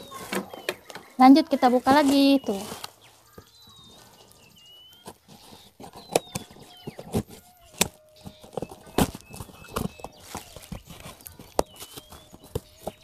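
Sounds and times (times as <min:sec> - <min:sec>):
cardboard box handled: 0:01.6 - 0:13.0.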